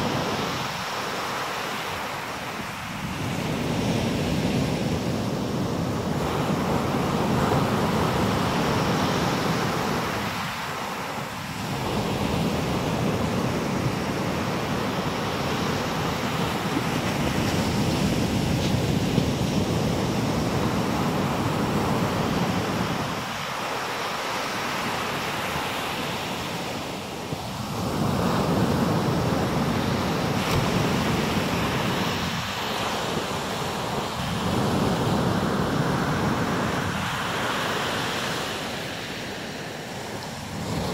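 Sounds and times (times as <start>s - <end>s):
surf breaking on beach: 0.0s - 40.9s.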